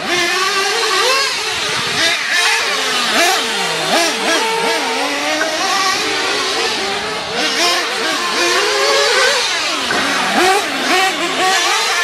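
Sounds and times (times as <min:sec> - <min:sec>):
rc car engines revving: 0:00.0 - 0:12.0.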